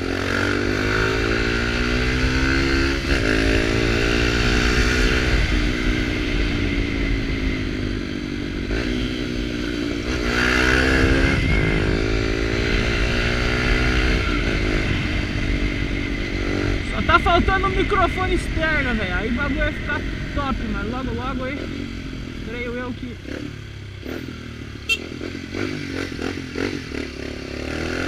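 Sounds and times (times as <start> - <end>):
motorcycle accelerating through gears: 0.0 - 28.0.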